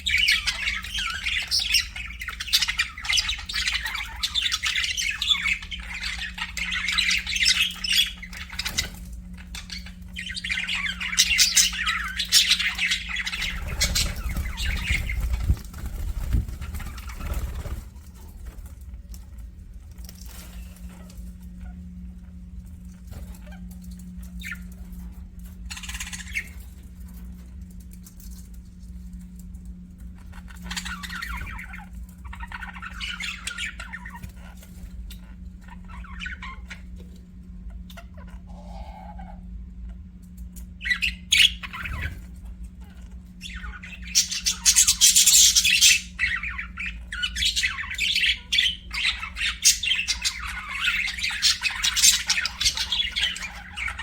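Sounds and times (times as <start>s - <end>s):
budgerigars chirping and squawking: 0.0s - 18.6s, 23.0s - 27.2s, 30.1s - 39.5s, 40.6s - 54.0s
steady low hum: 0.0s - 54.0s.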